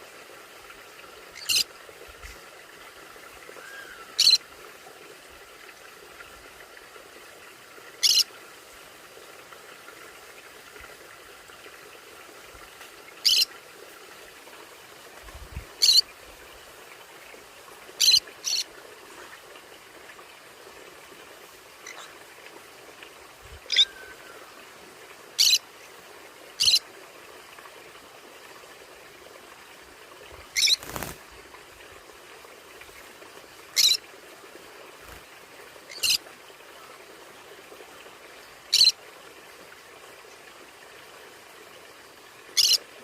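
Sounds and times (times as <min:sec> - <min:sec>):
faint hiss: 0:00.0 - 0:43.0.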